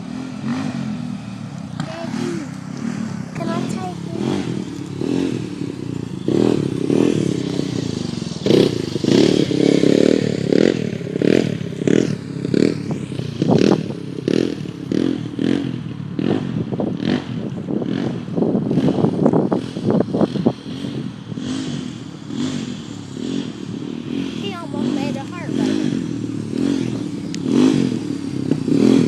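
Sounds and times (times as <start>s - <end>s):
atv engine surging: 0.0s - 29.0s.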